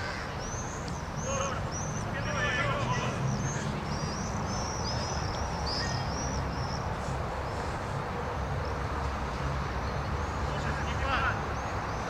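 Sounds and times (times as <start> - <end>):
small birds chirping: 0.0 - 8.9, 9.5 - 12.0.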